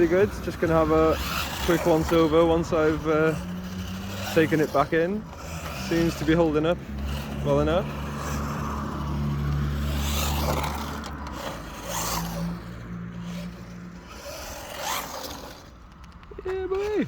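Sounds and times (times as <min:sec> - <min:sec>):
low motor hum: 0:00.0 - 0:16.9
toy car tyres scraping: 0:00.0 - 0:17.0.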